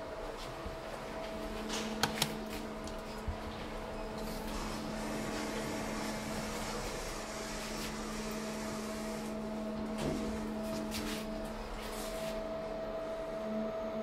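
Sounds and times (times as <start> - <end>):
elevator car running hum: 0.0 - 14.0.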